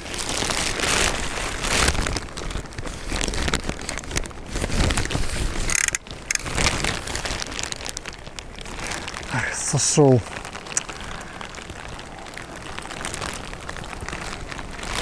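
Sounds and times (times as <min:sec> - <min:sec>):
rustling and buffeting on microphone: 0:00.0 - 0:15.0.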